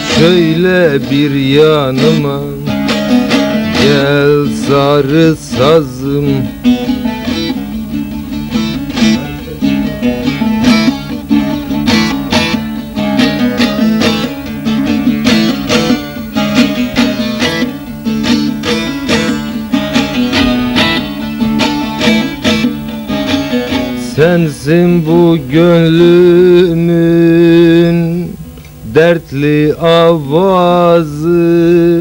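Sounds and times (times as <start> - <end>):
plucked saz melody over drone: 0.0 - 28.3.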